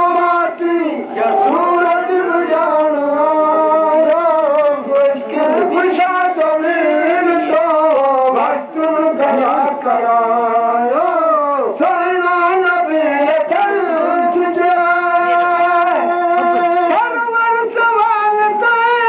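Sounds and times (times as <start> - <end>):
voices singing devotional chant: 0.0 - 19.0.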